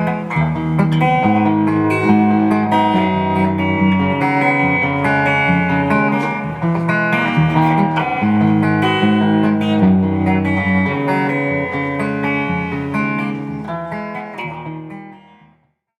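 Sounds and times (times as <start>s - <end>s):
electric guitar playing: 0.0s - 15.7s.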